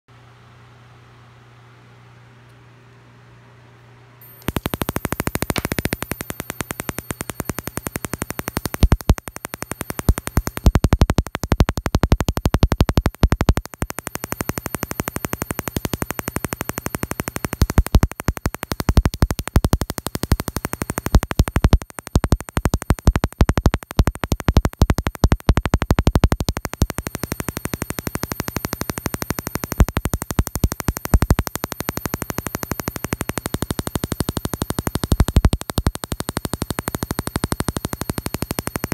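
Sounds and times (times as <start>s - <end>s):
high-pitched whine: 4.2s - 38.9s
tesla coil crackling buzz: 4.2s - 38.9s.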